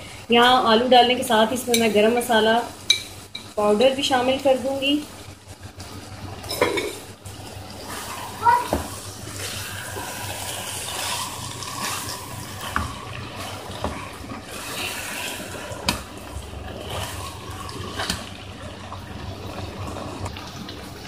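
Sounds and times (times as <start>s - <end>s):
meat and potatoes sizzling: 0.3s - 21.0s.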